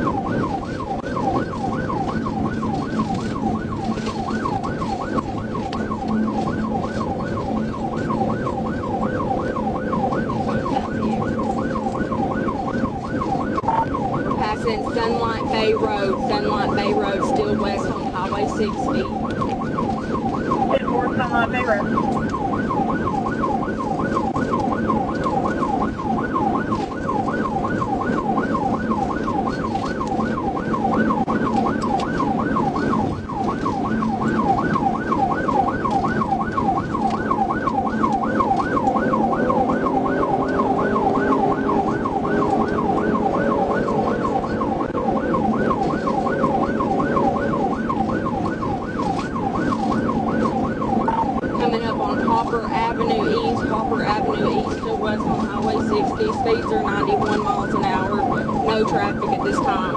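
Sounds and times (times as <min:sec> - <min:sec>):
car engine and road noise: 0:00.0 - 0:59.9
police siren yelp: 0:00.0 - 0:59.9.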